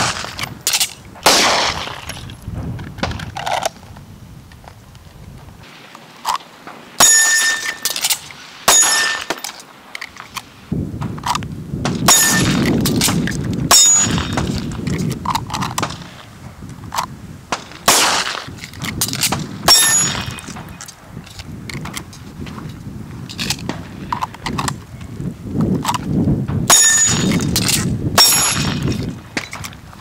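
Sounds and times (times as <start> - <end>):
wind buffeting microphone: 0.0 - 5.7, 10.4 - 30.0.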